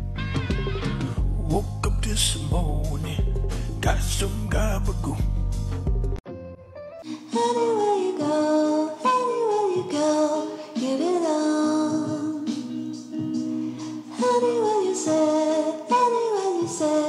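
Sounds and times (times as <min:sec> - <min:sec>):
music with sung melody: 0:00.0 - 0:17.0.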